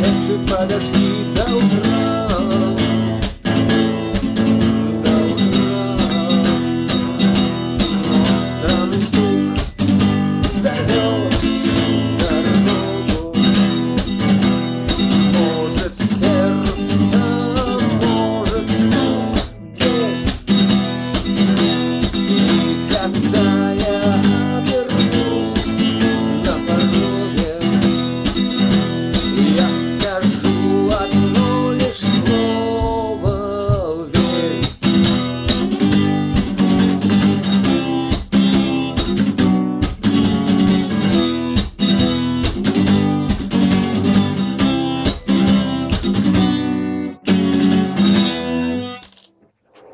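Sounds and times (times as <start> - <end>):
chordal guitar accompaniment: 0.0 - 33.5, 34.1 - 49.1
guitar melody with bent notes: 0.0 - 49.9.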